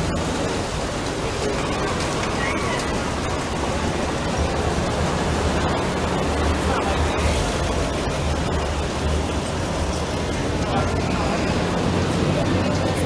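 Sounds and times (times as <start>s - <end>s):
low engine rumble: 0.0s - 13.0s
vehicles rolling over cobblestones: 0.0s - 13.0s.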